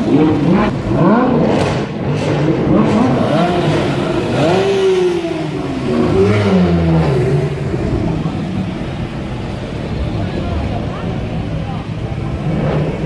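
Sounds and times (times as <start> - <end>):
street traffic: 0.0 - 13.0
supercar engine revving: 0.0 - 13.0.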